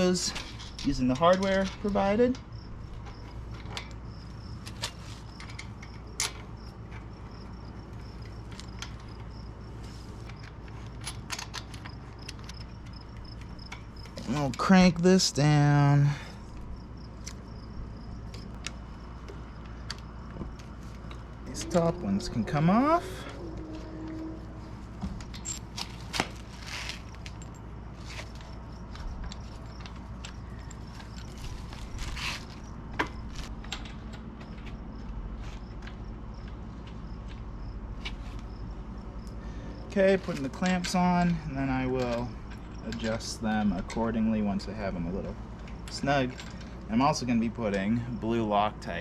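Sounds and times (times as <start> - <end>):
metal bolts and allen key clinking: 0.0 - 9.5, 10.2 - 34.8, 39.9 - 48.0
insect chirping: 0.0 - 44.3
low steady hum: 0.0 - 49.0.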